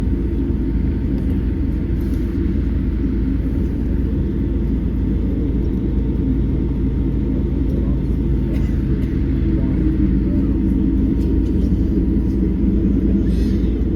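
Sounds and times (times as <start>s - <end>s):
airliner engines rumbling: 0.0s - 13.9s.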